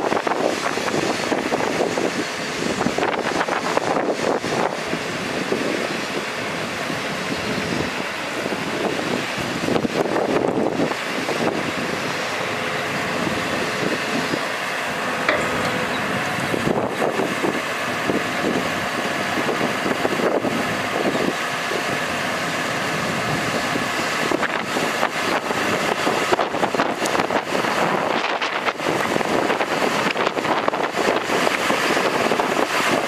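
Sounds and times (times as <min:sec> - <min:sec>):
truck diesel engine running: 0:00.0 - 0:33.0
wind on microphone: 0:00.0 - 0:33.0.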